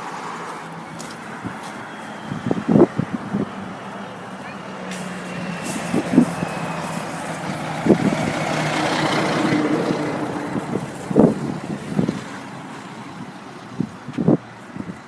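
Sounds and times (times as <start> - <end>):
truck passing by: 0.0 - 15.0.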